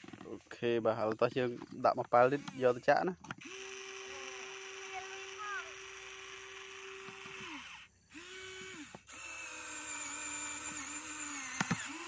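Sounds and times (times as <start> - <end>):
toy excavator motors whining: 0.0 - 12.0.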